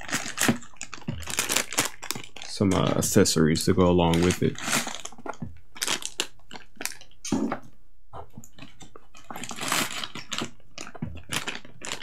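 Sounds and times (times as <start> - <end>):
plastic bags crinkling and rustling: 0.0 - 7.3, 8.4 - 12.0.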